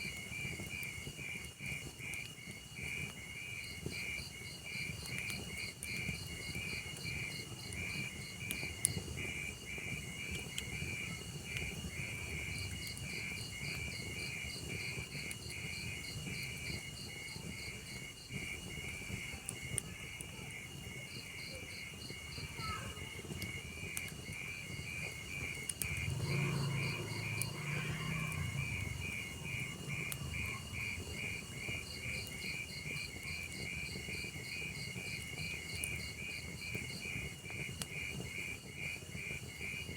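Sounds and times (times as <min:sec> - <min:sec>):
log fire rumble and crackles: 0:00.0 - 0:39.9
crickets chirping: 0:02.4 - 0:39.9.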